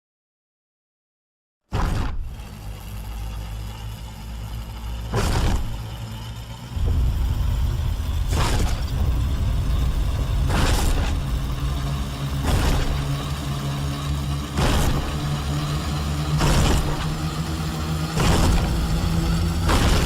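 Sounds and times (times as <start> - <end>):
vehicle engine rumbling: 2.2 - 20.0.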